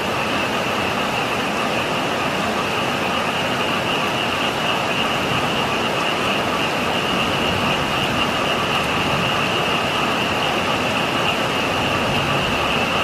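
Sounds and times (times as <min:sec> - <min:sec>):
frogs calling: 0:00.0 - 0:13.0
heavy rain: 0:00.0 - 0:13.0.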